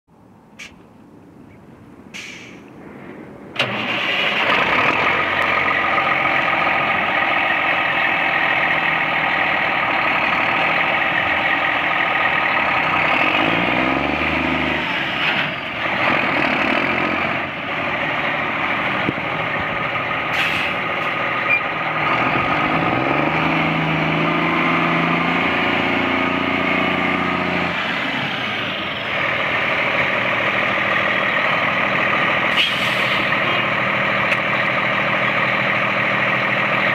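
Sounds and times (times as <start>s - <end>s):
diesel engine idling and revving: 0.1s - 36.9s
diesel truck engine starting: 2.1s - 36.9s.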